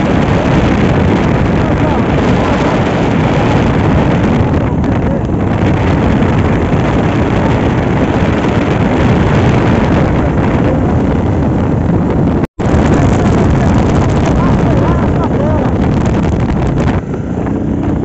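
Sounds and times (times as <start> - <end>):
vehicle noise: 0.0 - 18.0
wind rumble on microphone: 0.0 - 18.0.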